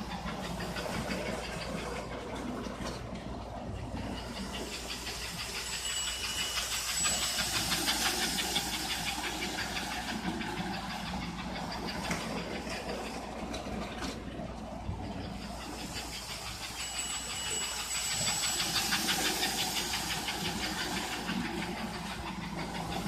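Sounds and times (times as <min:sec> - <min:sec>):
model train rattling on track: 0:00.0 - 0:23.0.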